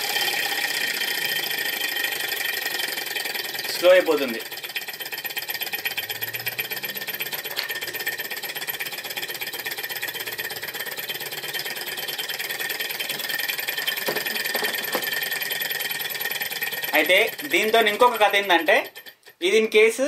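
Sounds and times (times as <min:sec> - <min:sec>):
engine mechanical clatter: 0:00.0 - 0:19.4.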